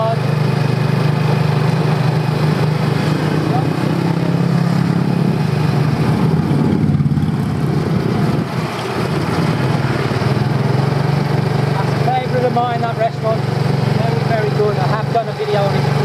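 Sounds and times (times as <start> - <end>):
motor scooter engine running: 0.0 - 16.0
road and wind noise: 0.0 - 16.0.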